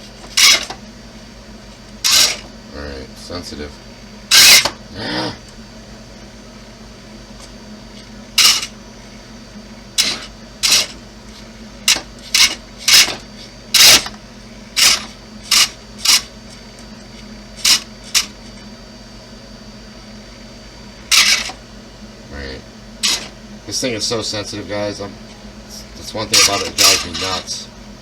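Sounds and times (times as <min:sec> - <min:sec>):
electric motors whirring: 0:00.0 - 0:00.9, 0:01.7 - 0:06.4, 0:07.2 - 0:27.6.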